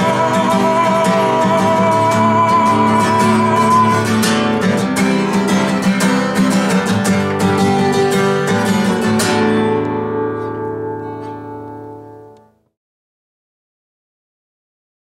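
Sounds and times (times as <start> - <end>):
blues acoustic guitar: 0.0 - 12.6.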